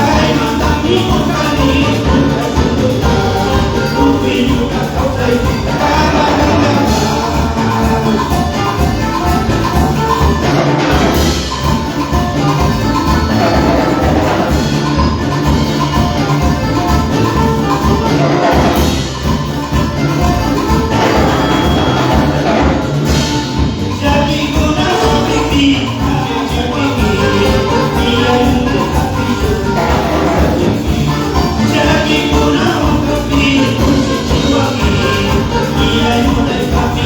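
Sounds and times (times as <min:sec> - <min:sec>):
latin dance band music: 0:00.0 - 0:37.0.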